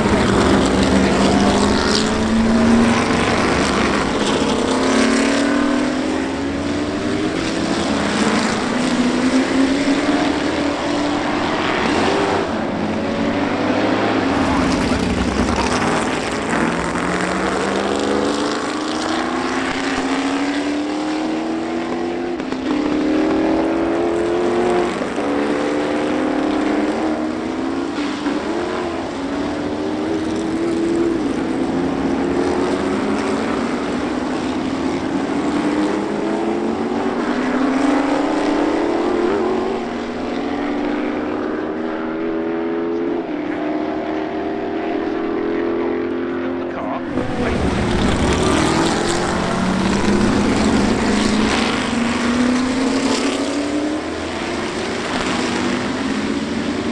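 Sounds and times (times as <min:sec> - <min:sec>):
racing car engines accelerating: 0:00.0 - 0:56.9.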